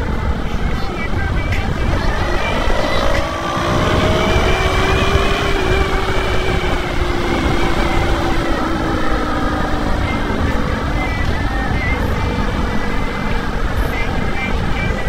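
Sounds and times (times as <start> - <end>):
faint drifting tones: 0.0 - 15.0
motorcycle engine: 0.0 - 15.0
wind on microphone: 0.0 - 15.0.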